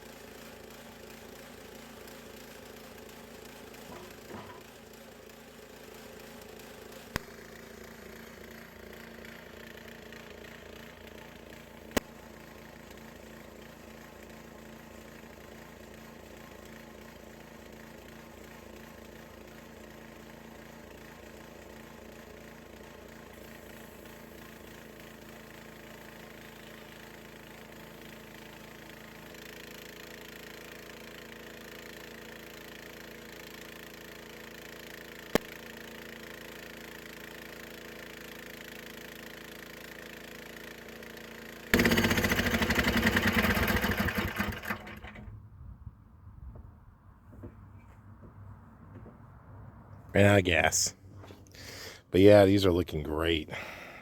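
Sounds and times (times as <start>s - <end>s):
sawmill engine running: 0.0s - 45.4s.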